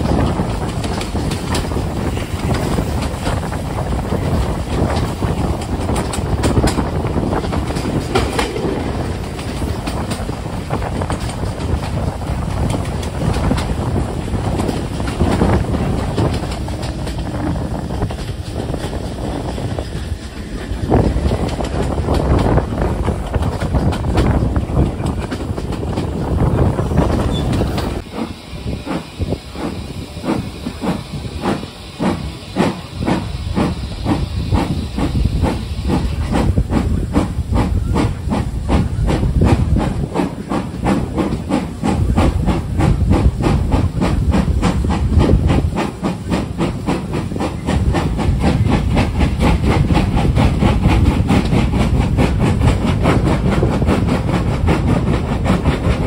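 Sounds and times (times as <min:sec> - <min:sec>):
steam locomotive exhaust beats: 0:00.0 - 0:56.0
train rumbling: 0:00.0 - 0:56.0
wind noise on microphone: 0:00.0 - 0:56.0.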